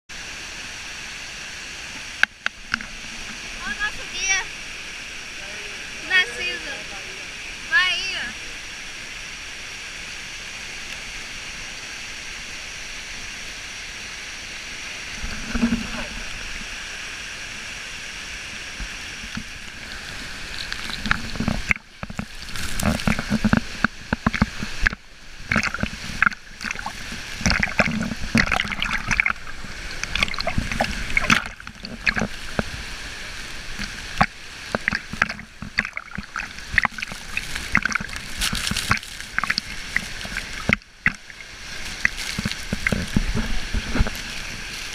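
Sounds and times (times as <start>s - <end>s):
waterfall rushing: 0.1s - 44.9s
water splashing and sloshing: 0.2s - 44.9s.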